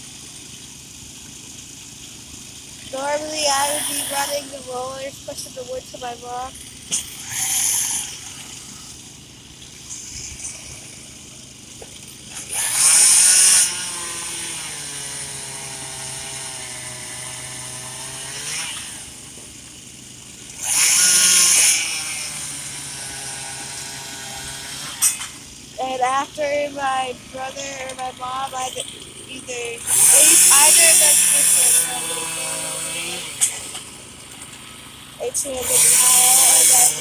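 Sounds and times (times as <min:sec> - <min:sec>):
chainsaw revving hard: 0:00.0 - 0:37.0
small engine droning: 0:00.0 - 0:37.0.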